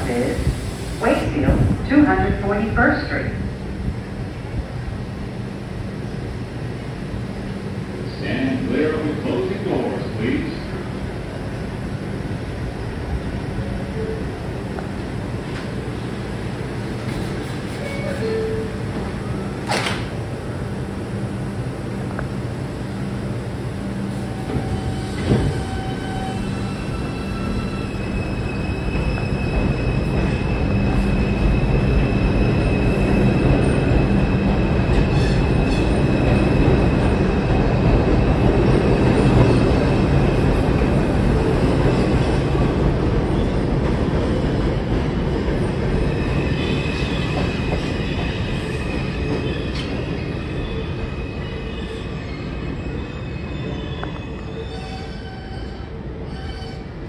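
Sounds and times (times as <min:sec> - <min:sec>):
subway train rumbling on rails: 0:00.0 - 0:57.0.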